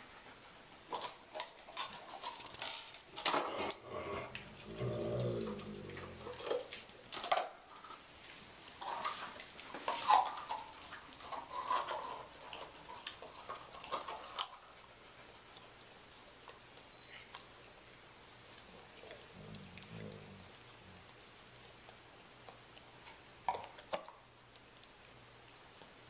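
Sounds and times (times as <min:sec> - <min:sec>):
dogs licking and snuffling: 0:00.0 - 0:26.0.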